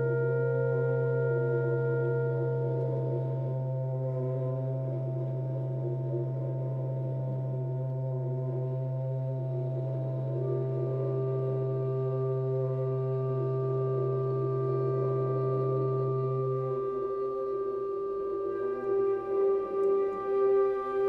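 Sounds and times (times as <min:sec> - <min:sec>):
ambient drone music: 0:00.0 - 0:21.0.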